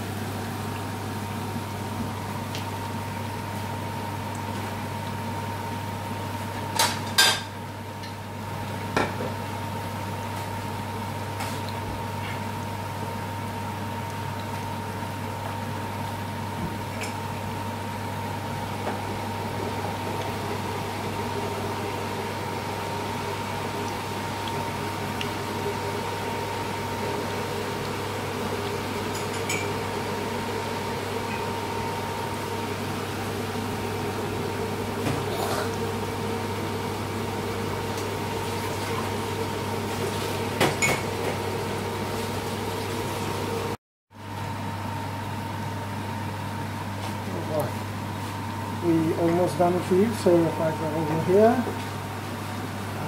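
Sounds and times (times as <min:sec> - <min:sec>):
deep-frying sizzle with pops: 0:00.0 - 0:44.5
electrical hum: 0:00.0 - 0:53.0.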